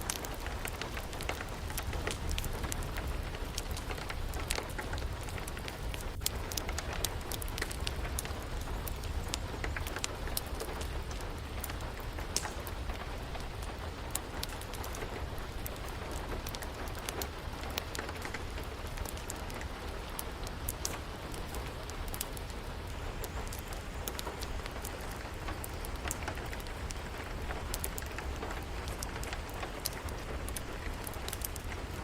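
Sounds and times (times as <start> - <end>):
steady rain hissing: 0.0 - 32.0
wood fire crackling: 0.0 - 32.0.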